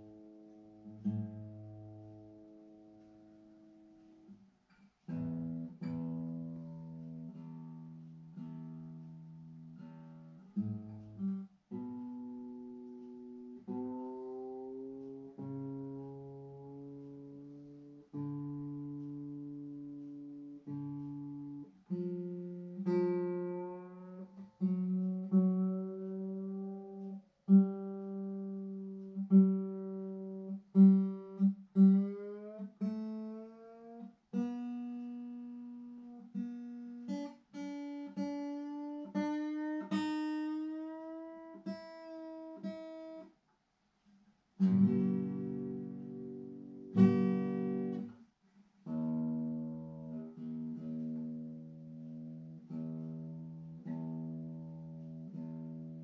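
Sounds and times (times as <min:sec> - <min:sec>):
acoustic guitar strings plucked: 0:00.0 - 0:43.3, 0:44.6 - 0:56.0.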